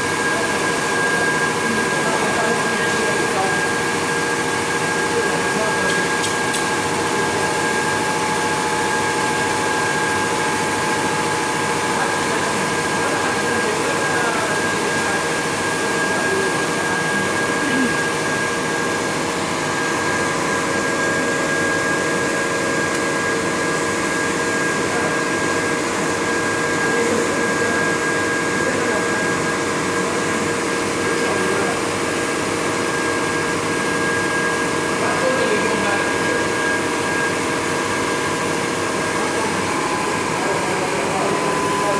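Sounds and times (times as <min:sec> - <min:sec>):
hot-air blower fans whirring: 0:00.0 - 0:41.9
steady whining tones: 0:00.0 - 0:41.9.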